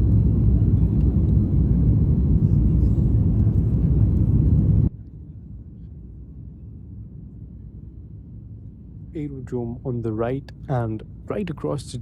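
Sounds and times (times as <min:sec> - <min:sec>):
jet engine rumble in cabin: 0:00.0 - 0:12.0
quiet steady low hum: 0:00.0 - 0:12.0.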